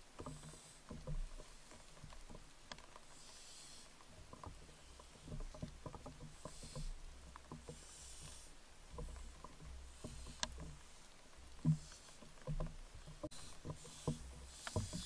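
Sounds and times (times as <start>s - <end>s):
faint scratching and clicking: 0.0s - 15.0s.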